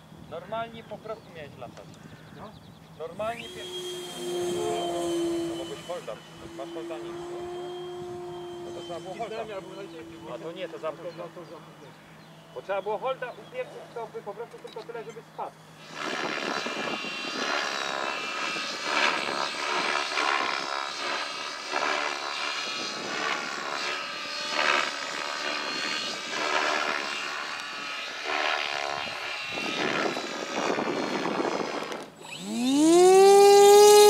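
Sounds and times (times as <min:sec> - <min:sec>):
model aircraft motor whine: 0:01.9 - 0:13.3, 0:15.6 - 0:34.0.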